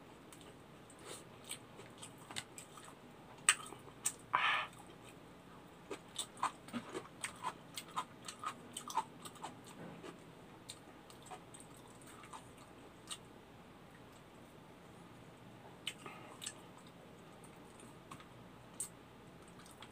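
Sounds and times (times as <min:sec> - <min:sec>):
man chewing with wet smacks: 0:00.3 - 0:13.2, 0:15.8 - 0:19.9.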